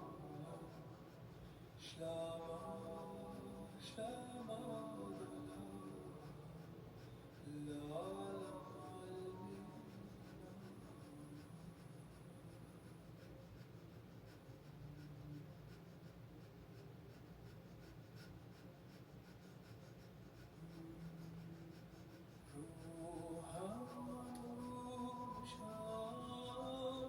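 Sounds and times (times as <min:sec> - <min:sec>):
soft background music: 0:00.0 - 0:18.3, 0:19.7 - 0:27.0
rapid breathing through nose: 0:00.0 - 0:27.0.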